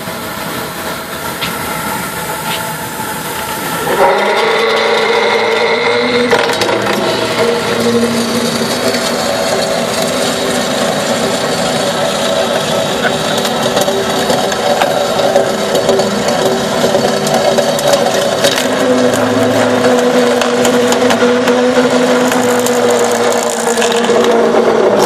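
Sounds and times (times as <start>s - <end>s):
circular saw cutting metal: 0.0s - 25.0s.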